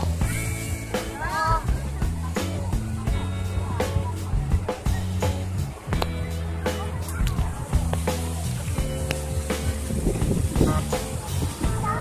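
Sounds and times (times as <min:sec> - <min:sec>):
music with drums and bass: 0:00.0 - 0:12.0.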